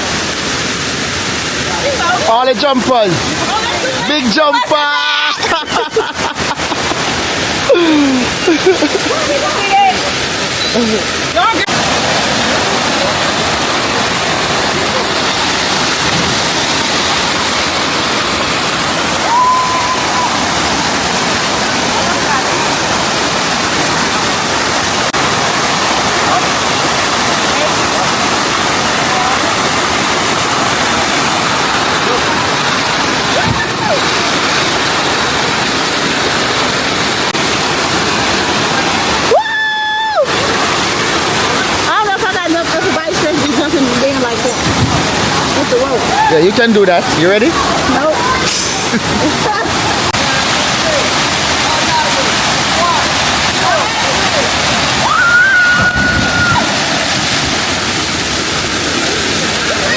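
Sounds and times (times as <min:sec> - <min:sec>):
waterfall rushing into a pool: 0:00.0 - 0:59.9.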